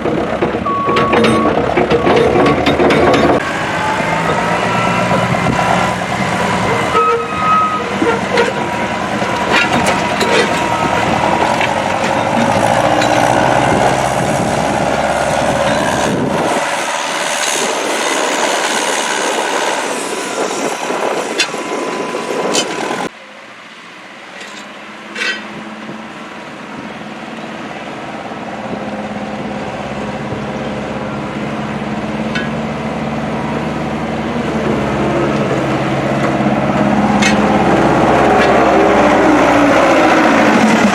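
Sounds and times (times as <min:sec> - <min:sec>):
heavy engines running: 0:00.0 - 0:40.9.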